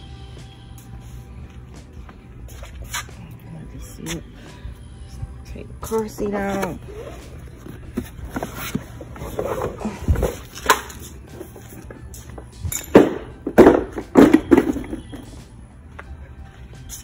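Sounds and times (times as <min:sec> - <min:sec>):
footsteps on concrete: 0:00.7 - 0:12.8, 0:15.1 - 0:17.0.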